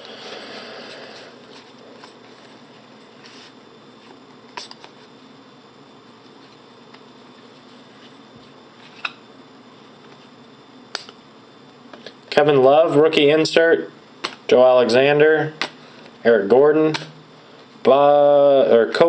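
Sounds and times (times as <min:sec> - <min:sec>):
low room hiss: 0:00.0 - 0:19.0.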